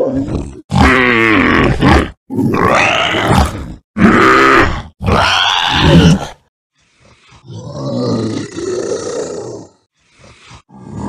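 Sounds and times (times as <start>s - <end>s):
dinosaur toy grunting roars: 0.0s - 11.0s.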